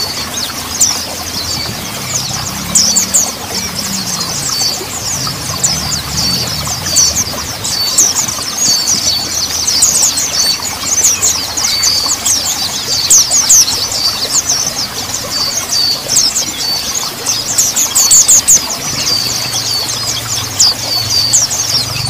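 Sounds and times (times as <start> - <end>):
bird song rapid high chirps: 0.0 - 22.0.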